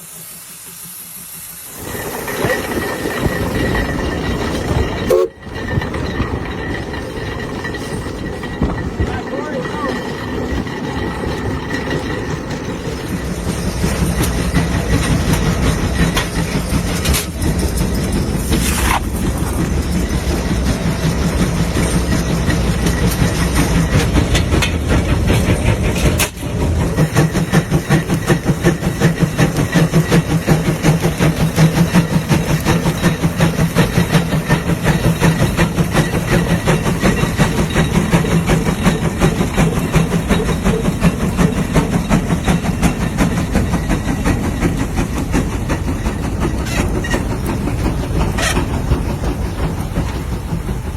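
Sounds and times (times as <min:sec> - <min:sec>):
tractor engine chugging: 0:01.6 - 0:50.9.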